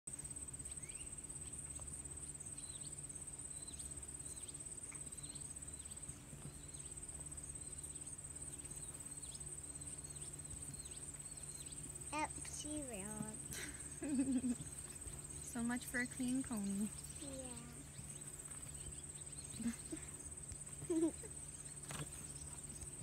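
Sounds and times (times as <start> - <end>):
insects trilling: 0.1 - 23.0.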